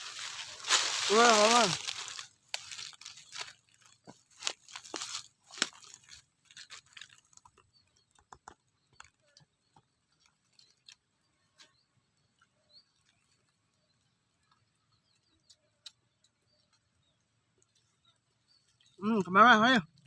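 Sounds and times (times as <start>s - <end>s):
crunching and chewing: 0.0s - 19.0s.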